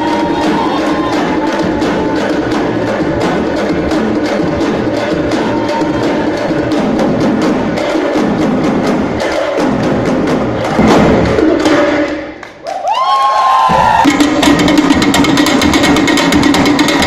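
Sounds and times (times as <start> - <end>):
frame drums struck with sticks: 0.0 - 12.3, 13.7 - 17.0.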